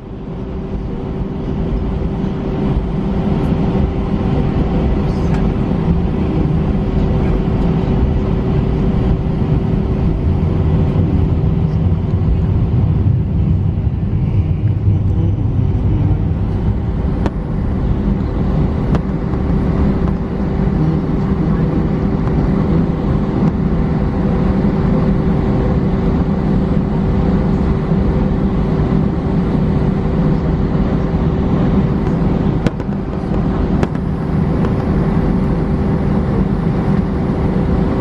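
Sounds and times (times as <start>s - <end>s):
aircraft cabin engine rumble: 0.0s - 38.0s.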